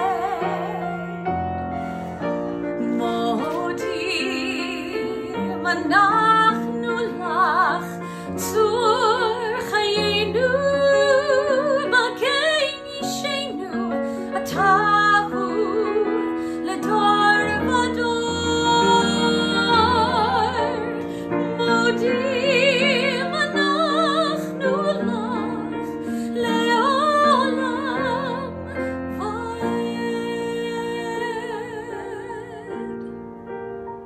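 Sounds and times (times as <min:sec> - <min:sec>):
woman singing with vibrato: 0:00.0 - 0:01.3, 0:02.8 - 0:33.1
piano accompaniment: 0:00.0 - 0:34.0.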